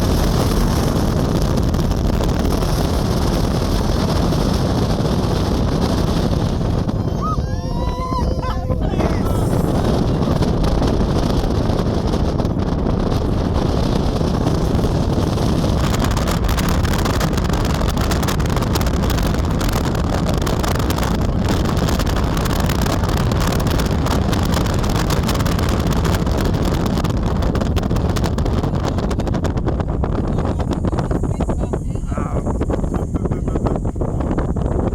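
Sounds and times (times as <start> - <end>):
vehicle engine and road rumble: 0.0 - 34.9
wind buffeting the microphone: 0.0 - 34.9.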